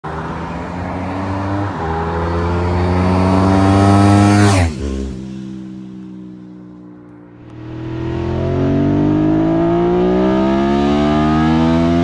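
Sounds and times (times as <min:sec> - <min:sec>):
motorcycle engine accelerating: 0:01.1 - 0:12.0.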